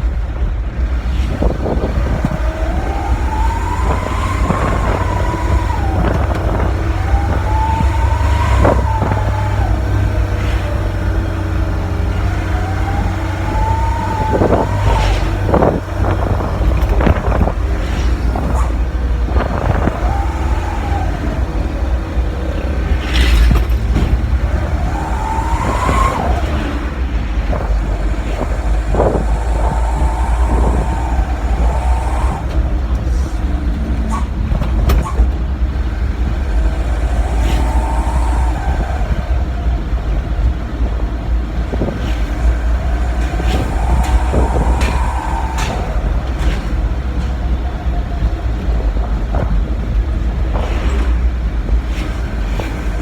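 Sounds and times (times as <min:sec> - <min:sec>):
diesel truck engine rumbling: 0:00.0 - 0:53.0
engine revving: 0:00.8 - 0:53.0.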